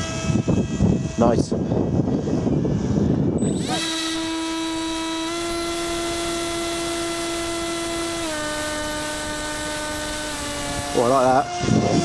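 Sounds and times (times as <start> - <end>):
electric motor high whine: 0.0 - 12.0
wind noise on microphone: 0.0 - 12.0.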